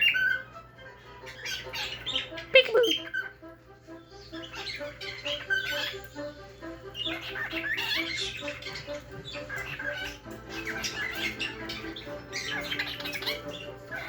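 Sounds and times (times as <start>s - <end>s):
cockatiel chirping and squawking: 0.0s - 14.0s
faint background music: 0.0s - 14.0s.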